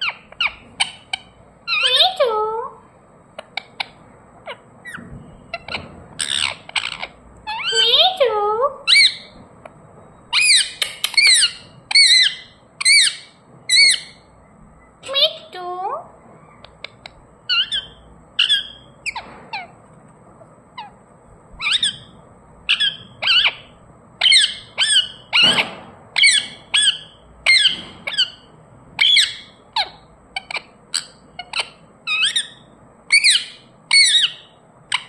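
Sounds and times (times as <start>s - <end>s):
parakeet squawking and chirping: 0.0s - 35.0s.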